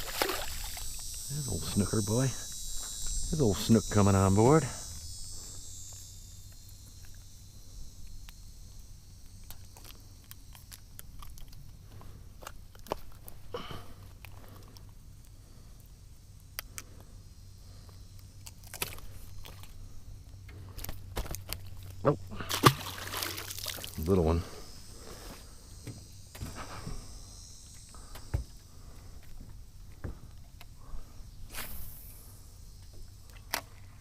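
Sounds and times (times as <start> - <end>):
high insect-like buzz: 0.0 - 34.0
steady low hum: 0.0 - 34.0.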